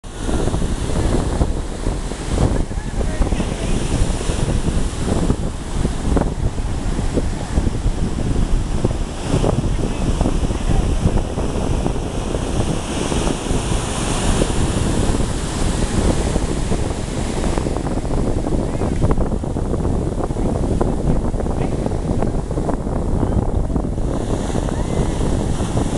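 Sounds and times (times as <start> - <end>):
surf washing in: 0.0 - 25.9
wind buffeting microphone: 0.0 - 25.9.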